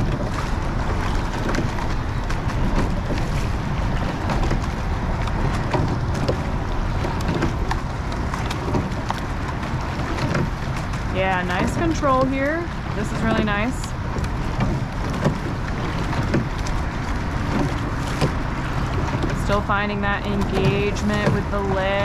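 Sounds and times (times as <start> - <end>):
oars clicking in oarlocks: 0.0 - 22.0
rowing boat running noise: 0.0 - 22.0
wind buffeting microphone: 0.0 - 22.0.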